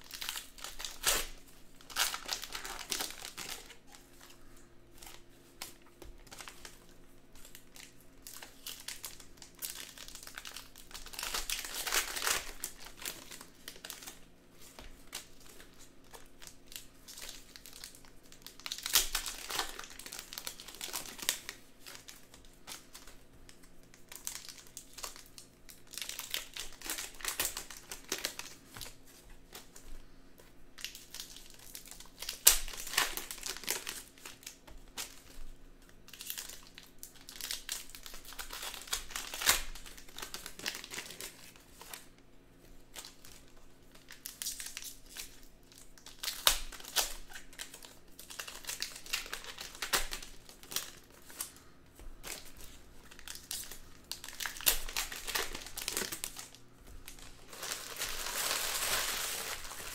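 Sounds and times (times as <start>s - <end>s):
plastic wrappers tearing and crinkling: 0.0s - 30.0s, 30.8s - 42.2s, 42.9s - 59.9s
faint steady hum: 0.0s - 59.9s.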